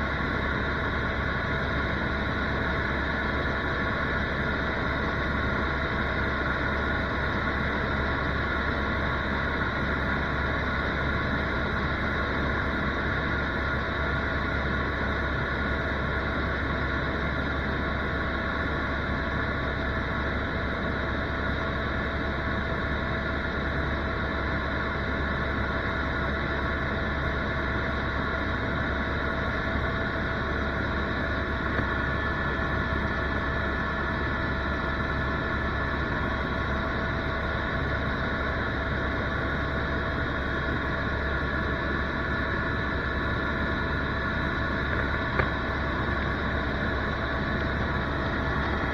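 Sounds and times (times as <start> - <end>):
helicopter engine and rotor noise: 0.0 - 48.9
turbine whine: 0.0 - 48.9.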